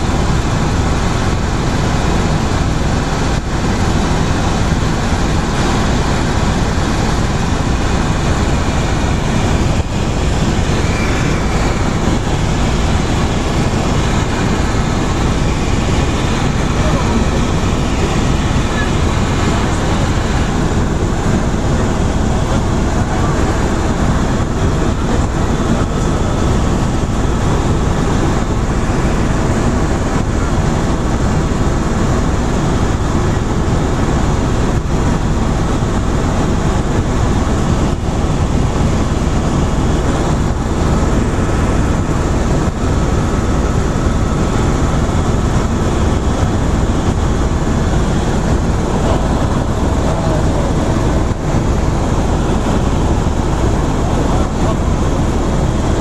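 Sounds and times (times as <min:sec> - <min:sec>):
faint steady whine: 0:00.0 - 0:56.0
helicopter rotor and engine rush: 0:00.0 - 0:56.0.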